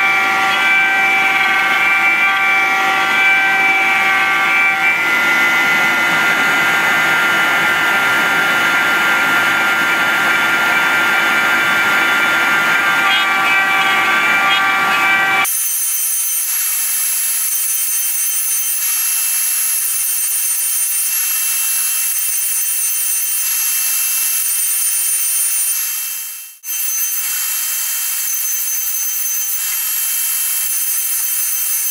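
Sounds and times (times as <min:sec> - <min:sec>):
router spindle whining: 0:00.0 - 0:31.9.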